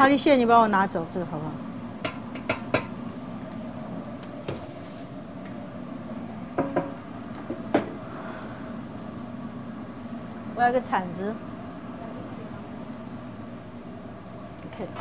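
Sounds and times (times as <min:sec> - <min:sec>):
wok burner and exhaust fan hum: 0:00.0 - 0:15.0.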